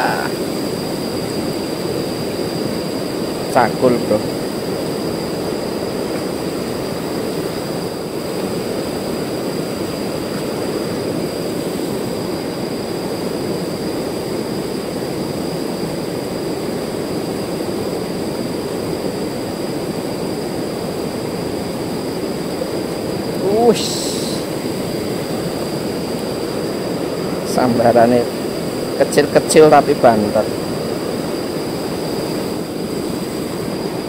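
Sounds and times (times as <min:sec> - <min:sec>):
river water rushing over rocks: 0:00.0 - 0:29.7.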